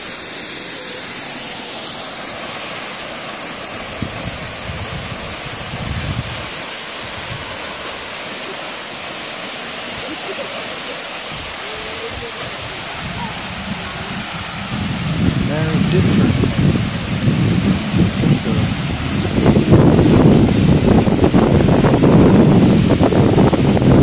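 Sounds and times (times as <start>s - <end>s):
waterfall splashing into pool: 0.0s - 24.0s.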